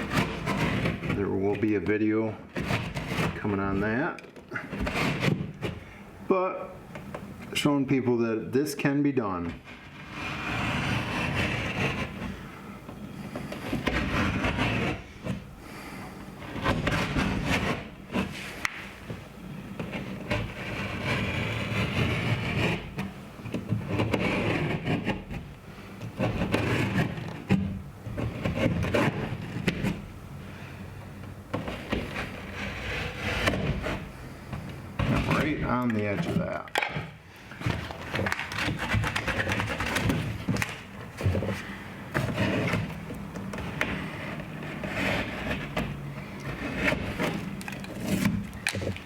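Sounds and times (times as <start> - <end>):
blade scraping through drywall: 0.0 - 6.0, 9.4 - 30.8, 31.4 - 36.7, 37.4 - 49.0.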